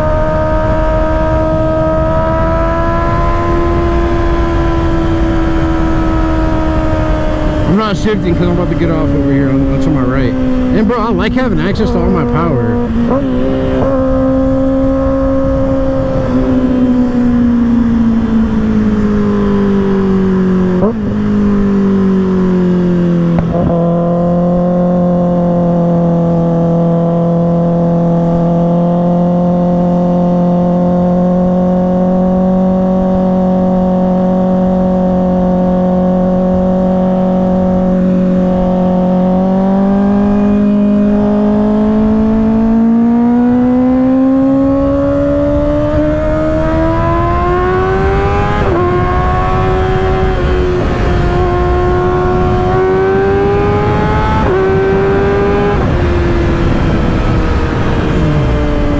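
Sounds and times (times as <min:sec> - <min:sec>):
motorcycle engine: 0:00.0 - 0:58.9.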